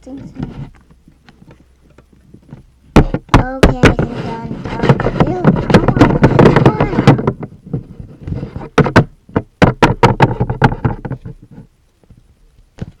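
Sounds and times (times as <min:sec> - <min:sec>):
sharp knocks and taps: 0:00.4 - 0:11.6.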